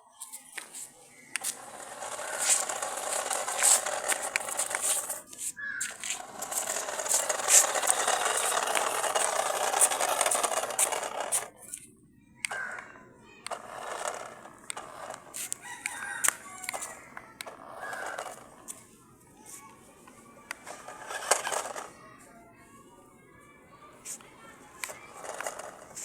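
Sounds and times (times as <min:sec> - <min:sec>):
scraping and rattling with clicks: 0:00.2 - 0:18.8, 0:20.5 - 0:22.0, 0:24.1 - 0:26.0.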